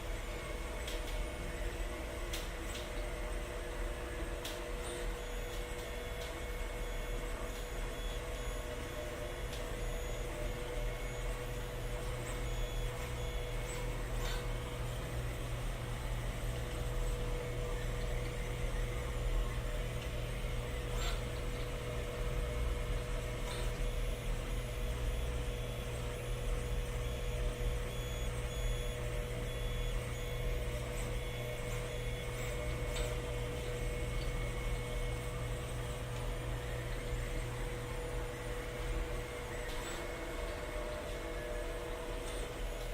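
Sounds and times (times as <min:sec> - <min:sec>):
printer humming: 0:00.0 - 0:42.9.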